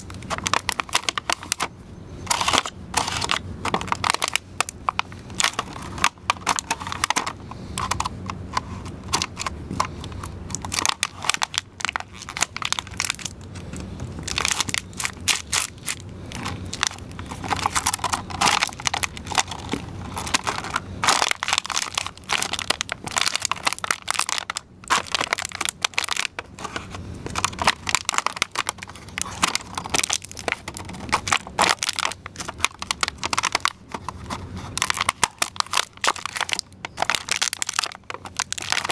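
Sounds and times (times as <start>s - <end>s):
plastic cracking and crinkling: 0.0s - 38.9s.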